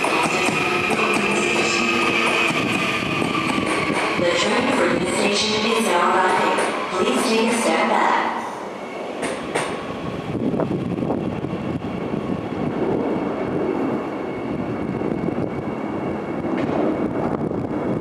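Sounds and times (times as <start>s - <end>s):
subway train wheels rumbling: 0.0s - 18.0s.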